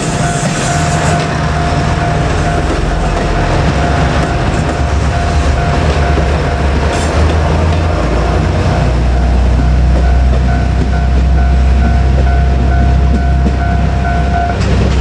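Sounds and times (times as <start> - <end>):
level-crossing warning bell: 0.0 - 15.0
railcar rumbling past on rails: 0.0 - 15.0.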